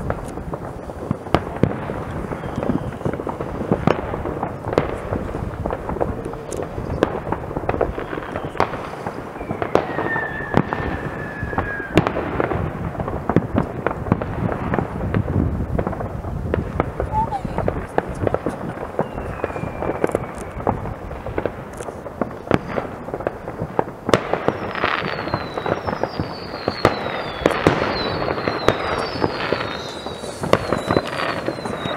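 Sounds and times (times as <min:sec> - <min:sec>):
distant fireworks crackling: 0:00.0 - 0:31.9
nearer firework bangs: 0:00.0 - 0:31.9
whistling firework: 0:00.0 - 0:31.9.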